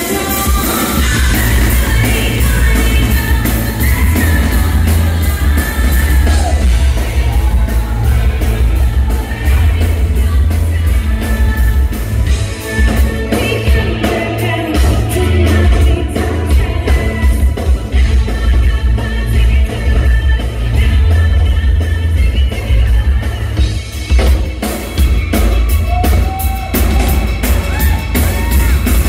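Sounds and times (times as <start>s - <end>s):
woman singing into microphone: 0.0s - 24.3s
heavy bass: 0.0s - 29.0s
steady drum beat: 0.0s - 29.0s.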